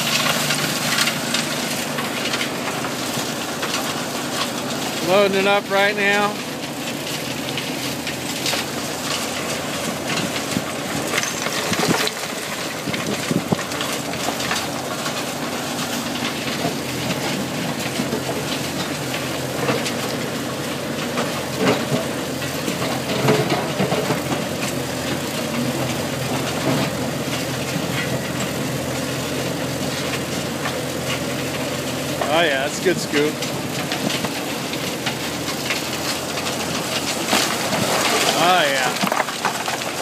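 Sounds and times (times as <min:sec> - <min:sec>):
bucket digging through gravel: 0:00.0 - 0:40.0
diesel engine running: 0:00.0 - 0:40.0.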